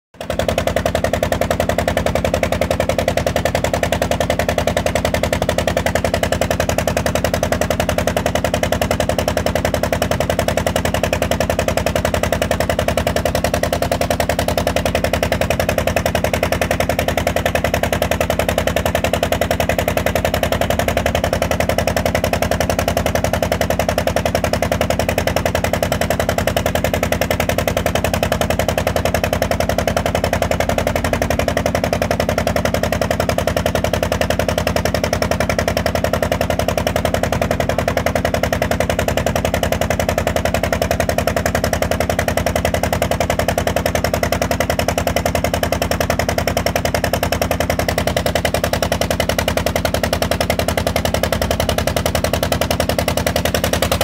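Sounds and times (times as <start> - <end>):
boat engine knocking: 0.1 - 54.0.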